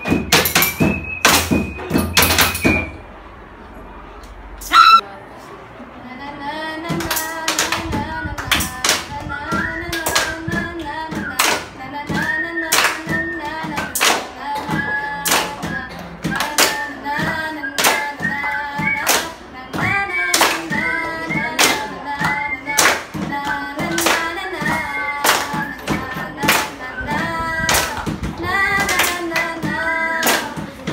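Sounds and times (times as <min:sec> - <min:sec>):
hand claps: 0:00.0 - 0:02.9, 0:06.9 - 0:30.9.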